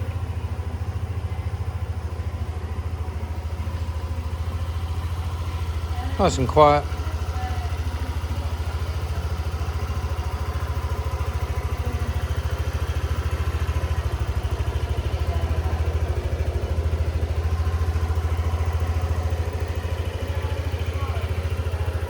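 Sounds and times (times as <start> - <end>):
scooter engine idling: 0.0 - 22.0.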